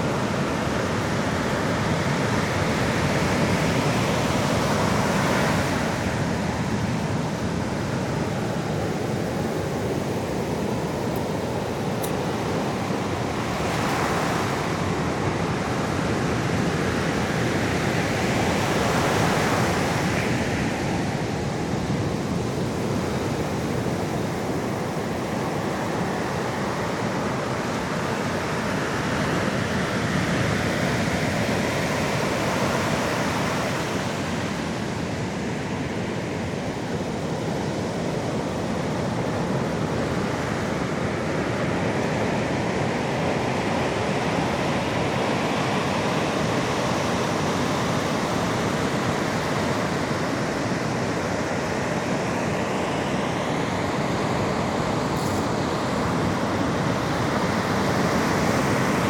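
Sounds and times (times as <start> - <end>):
sea waves washing onto shore: 0.0 - 59.0.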